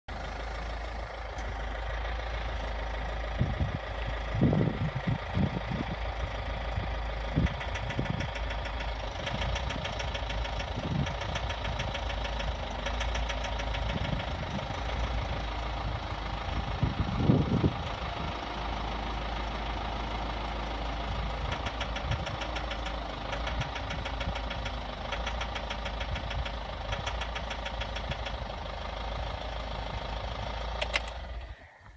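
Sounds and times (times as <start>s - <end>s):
car engine idling: 0.1s - 31.9s
fast even engine knocking: 2.5s - 31.5s.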